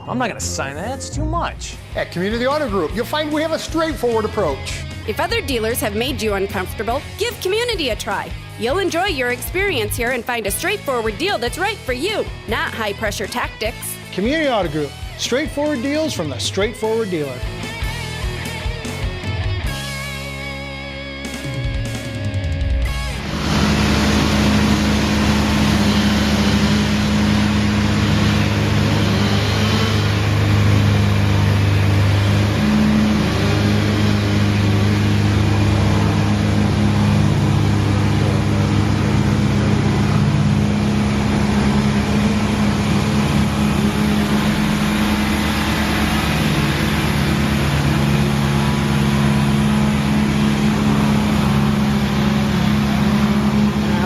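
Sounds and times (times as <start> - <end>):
heavy machinery engine running: 0.0 - 20.4, 21.5 - 54.0.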